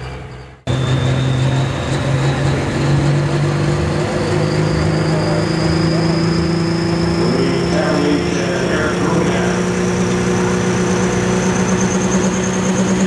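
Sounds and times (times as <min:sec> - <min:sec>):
diesel pickup engine running: 0:00.0 - 0:13.0
high turbo whistle: 0:00.0 - 0:13.0
truck engine: 0:00.0 - 0:13.0.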